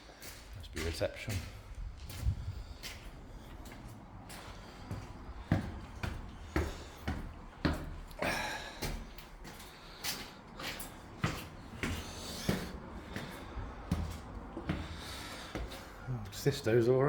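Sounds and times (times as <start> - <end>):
footsteps climbing stairs: 0.0 - 16.8
gritty scuffs: 0.1 - 16.4.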